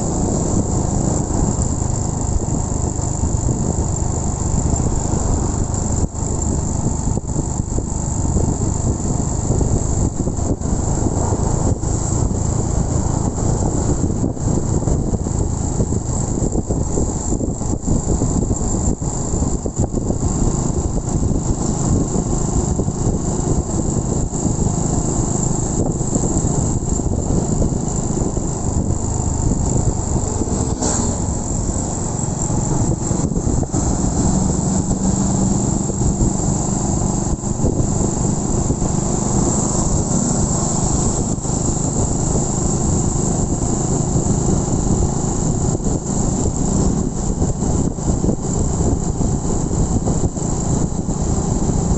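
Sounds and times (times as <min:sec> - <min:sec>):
motorcycle engine running: 0:00.0 - 0:51.9
wind rushing over microphone: 0:00.0 - 0:51.9.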